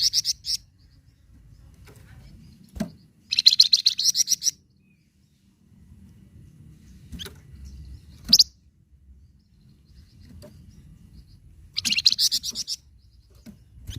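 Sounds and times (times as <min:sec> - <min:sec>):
songbird chirping: 0:00.0 - 0:13.9.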